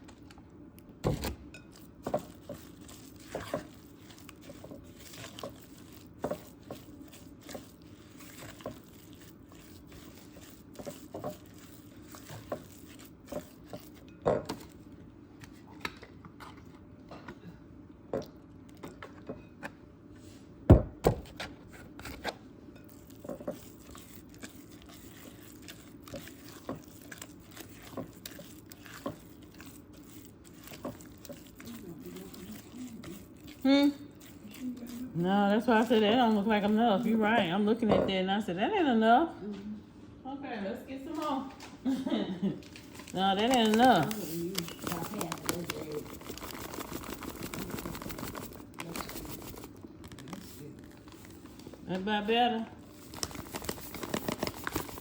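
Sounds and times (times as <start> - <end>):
spoon stirring batter in bowl: 1.0 - 17.4, 21.2 - 39.0, 42.6 - 55.0.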